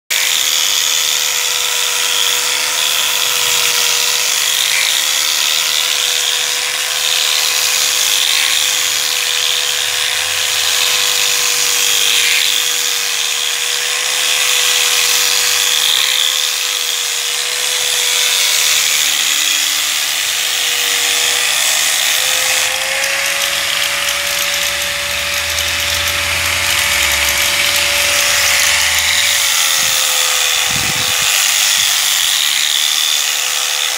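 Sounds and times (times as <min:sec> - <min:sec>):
angle grinder motor whine: 0:00.1 - 0:33.9.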